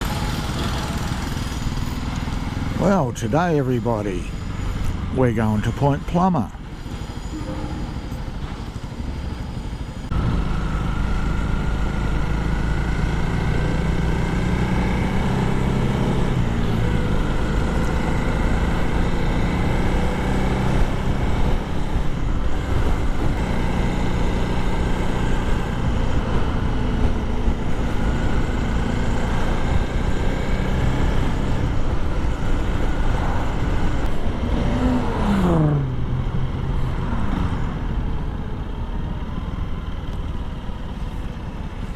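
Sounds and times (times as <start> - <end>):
motorcycle engine running: 0.0 - 3.4, 6.6 - 41.9.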